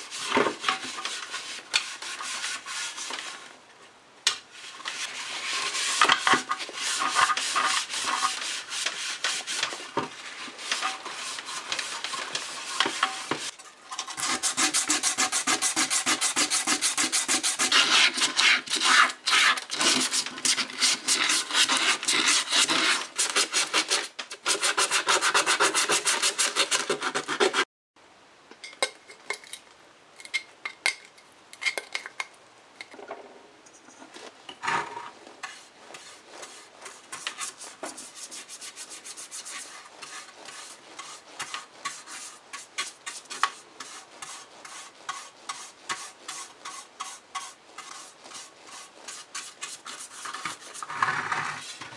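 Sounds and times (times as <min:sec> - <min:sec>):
brush stroking metal plate: 0:00.0 - 0:03.4, 0:04.5 - 0:27.6, 0:35.4 - 0:51.9.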